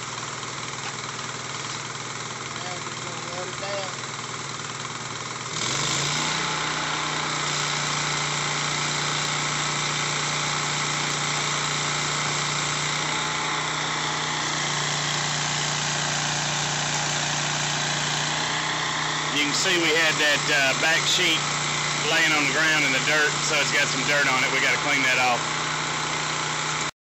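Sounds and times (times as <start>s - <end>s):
engine hum: 0.0s - 26.9s.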